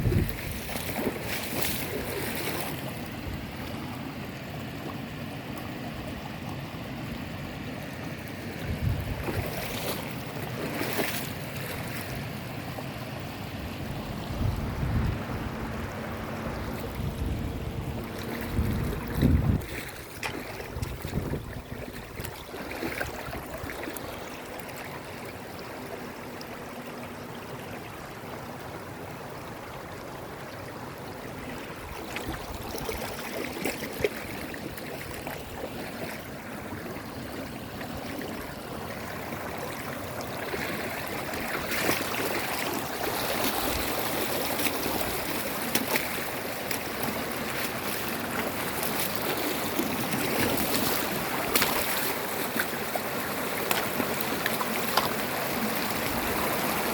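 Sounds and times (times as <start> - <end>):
stream water rushing: 0.0 - 56.9.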